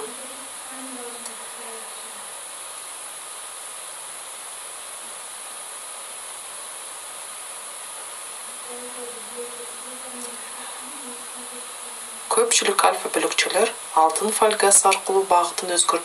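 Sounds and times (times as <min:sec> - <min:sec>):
background hiss: 0:00.0 - 0:16.0
high-pitched whine: 0:00.0 - 0:16.0.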